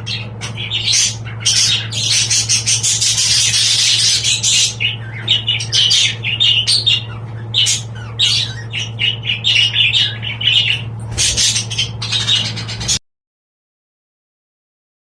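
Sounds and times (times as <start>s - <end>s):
budgerigars chattering: 0.0s - 13.0s
steady low hum: 0.0s - 13.0s.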